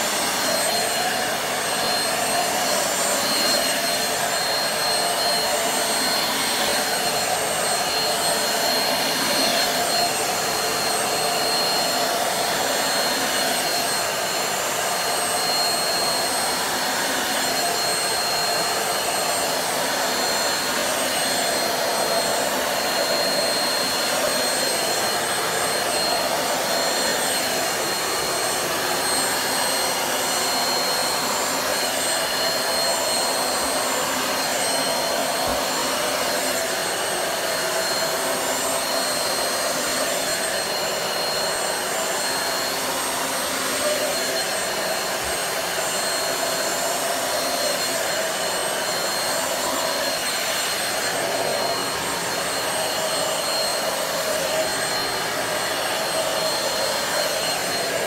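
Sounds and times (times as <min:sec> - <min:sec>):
handheld vacuum running: 0:00.0 - 0:58.0.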